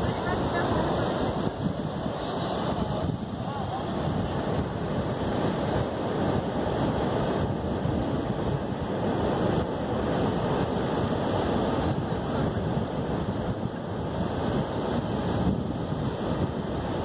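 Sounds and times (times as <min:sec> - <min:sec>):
ocean surf: 0:00.0 - 0:17.0
wind noise on microphone: 0:00.0 - 0:17.0.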